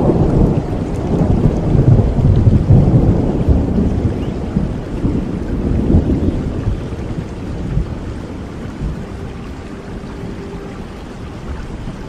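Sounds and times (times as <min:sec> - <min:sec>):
steady rain: 0:00.0 - 0:12.0
thunder rolling: 0:00.0 - 0:12.0.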